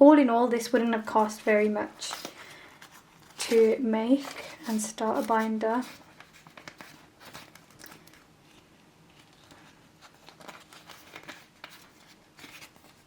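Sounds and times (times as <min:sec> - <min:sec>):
plastic wallets rustling: 0:00.6 - 0:13.0.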